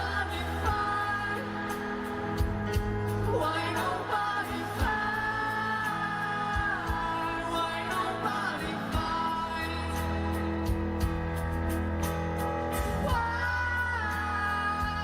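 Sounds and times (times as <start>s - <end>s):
man singing: 0.0s - 11.2s, 12.9s - 15.0s
live pop band: 0.0s - 15.0s.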